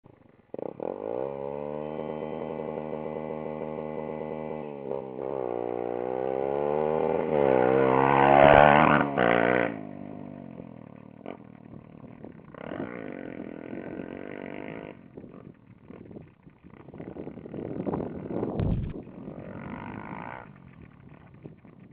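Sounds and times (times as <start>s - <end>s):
motorcycle engine revving: 0.1s - 21.9s.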